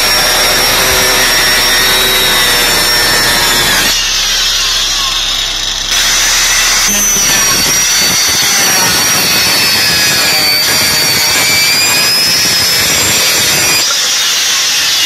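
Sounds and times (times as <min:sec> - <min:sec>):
angle grinder cutting wood: 0:00.0 - 0:15.0.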